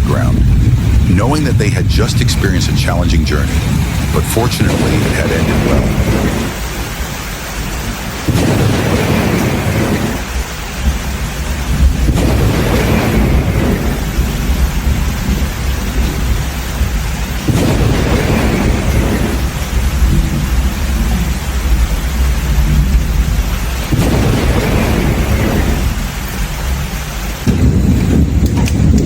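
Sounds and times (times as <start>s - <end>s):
heavy rain: 0.0s - 29.0s
thunderclaps rolling: 0.0s - 29.0s.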